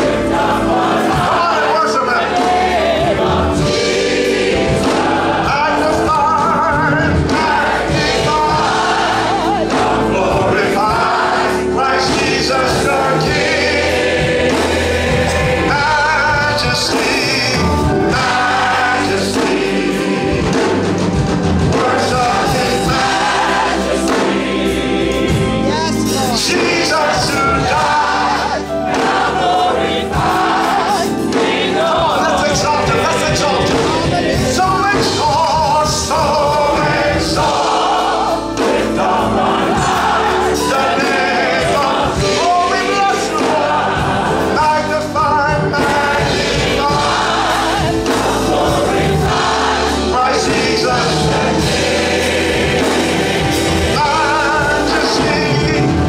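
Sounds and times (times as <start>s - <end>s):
congregation singing: 0.0s - 56.0s.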